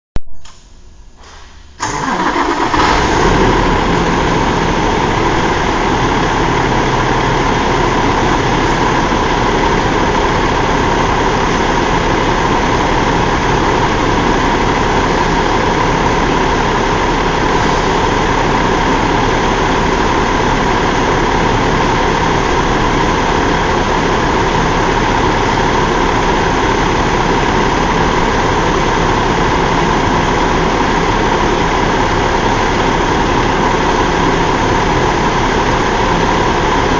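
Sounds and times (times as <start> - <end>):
diesel engine idling: 1.8 - 36.9.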